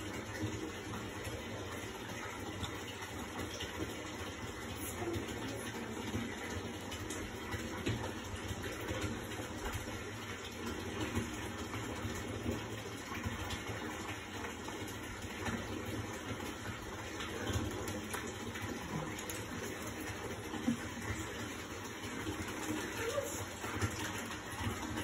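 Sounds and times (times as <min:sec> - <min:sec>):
tap water running into bathtub: 0:00.0 - 0:25.0.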